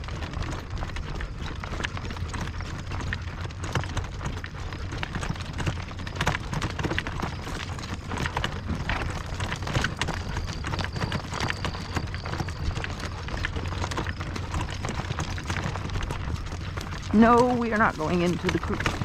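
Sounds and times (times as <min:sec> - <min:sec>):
hooves clip-clopping: 0:00.0 - 0:19.0.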